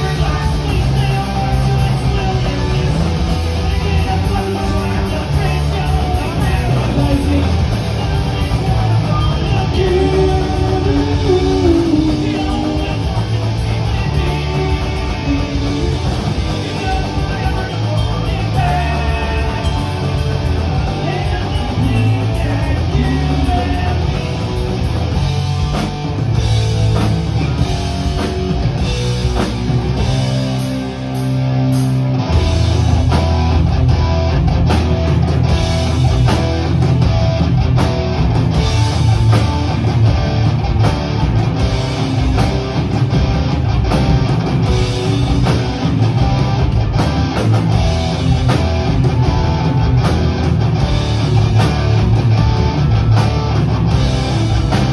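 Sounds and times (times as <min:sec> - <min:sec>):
bass guitar: 0:00.0 - 0:54.9
distorted electric guitars: 0:00.0 - 0:54.9
drum kit: 0:00.0 - 0:54.9
punk rock band playing live: 0:00.0 - 0:54.9.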